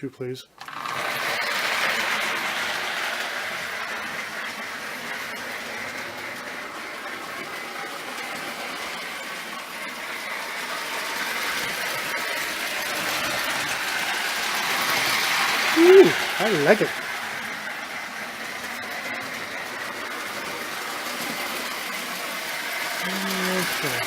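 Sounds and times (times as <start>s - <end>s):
staticky hiss from toy train: 0.6s - 24.0s
toy train wheels on track: 0.6s - 24.0s.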